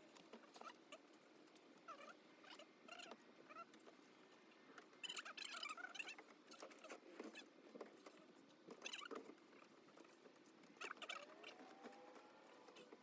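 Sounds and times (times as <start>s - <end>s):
faint clicks and scrapes: 0.1s - 13.0s.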